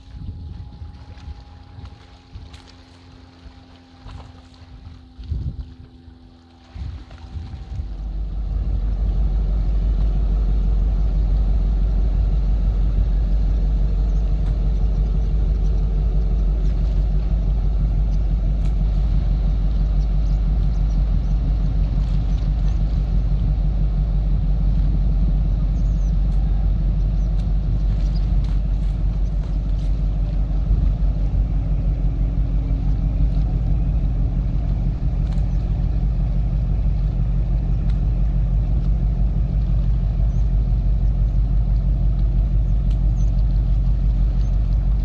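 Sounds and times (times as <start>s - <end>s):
low engine rumble: 0.0s - 45.0s.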